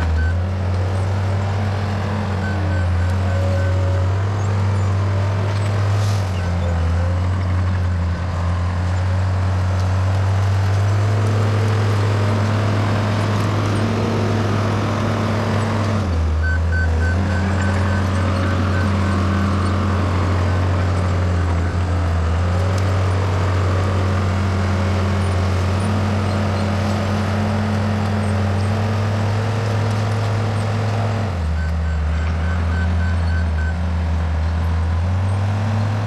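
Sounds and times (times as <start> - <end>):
bulldozer diesel engine droning: 0.0 - 36.0.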